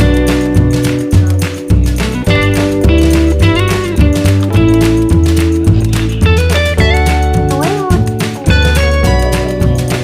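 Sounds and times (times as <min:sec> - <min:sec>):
music with beat and plucked guitar: 0:00.0 - 0:10.0.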